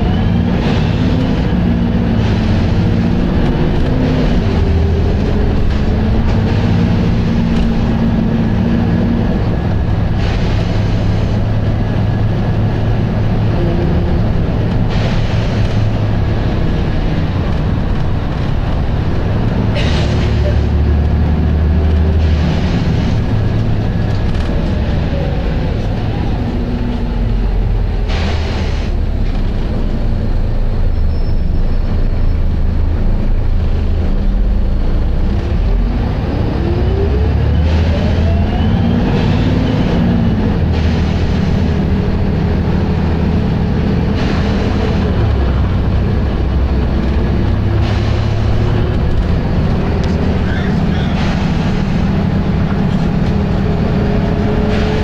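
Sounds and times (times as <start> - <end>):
diesel bus engine running hard: 0.0 - 55.0.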